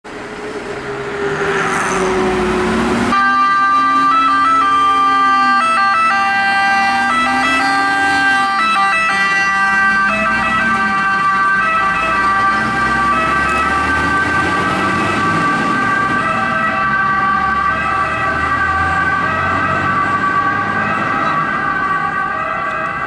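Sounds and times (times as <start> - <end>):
diesel truck engine pulling away: 0.0 - 22.8
fire engine siren: 0.1 - 23.0.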